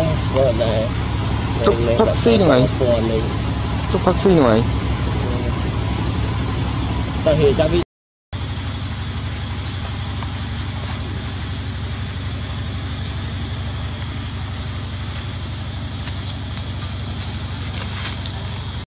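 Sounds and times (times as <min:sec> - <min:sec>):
low mechanical hum: 0:00.0 - 0:07.8, 0:08.4 - 0:18.9.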